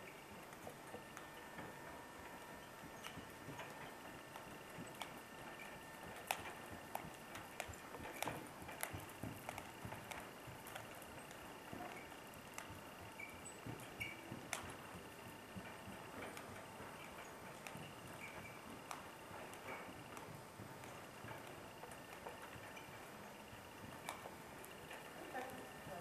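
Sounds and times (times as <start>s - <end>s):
hoofbeats on dirt: 0.1s - 26.0s
cart and harness rattling: 2.6s - 26.0s.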